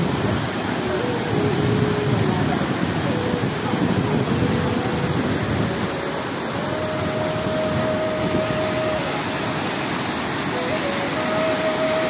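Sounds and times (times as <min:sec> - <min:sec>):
floodwater rushing through weir: 0:00.0 - 0:12.0.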